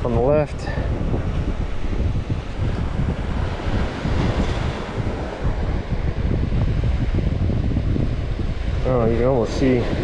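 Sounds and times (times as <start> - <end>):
surf breaking: 0.0 - 10.0
wind buffeting microphone: 0.0 - 10.0.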